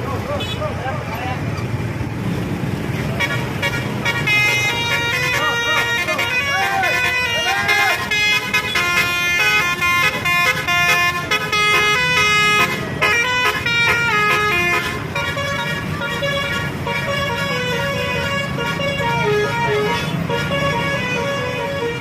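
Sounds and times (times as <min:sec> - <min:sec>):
multi-tone bus horn melody: 0:03.0 - 0:22.0.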